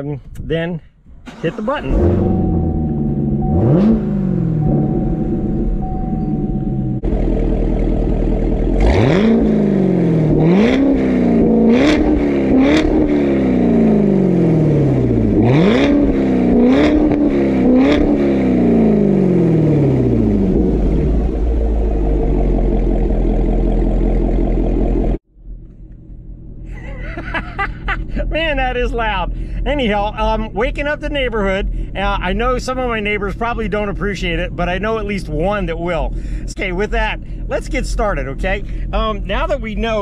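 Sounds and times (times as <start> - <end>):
car engine idling and revving: 1.0 - 40.0.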